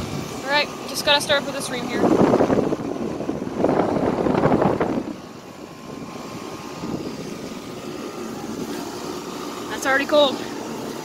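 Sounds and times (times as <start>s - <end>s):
air conditioner running: 0.0s - 11.0s.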